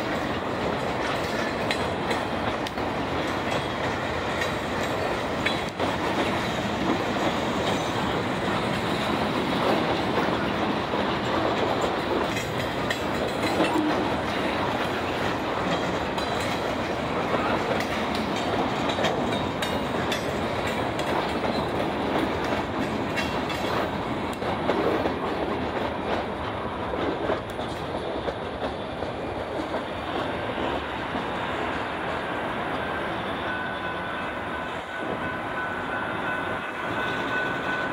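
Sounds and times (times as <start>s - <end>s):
wheels clicking over rail joints: 0.0s - 31.3s
freight train rolling past: 0.0s - 37.9s.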